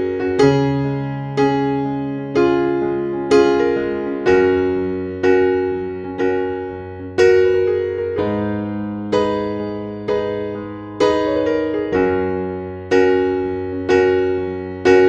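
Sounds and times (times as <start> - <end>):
keyboard playing slow chords: 0.0 - 15.0.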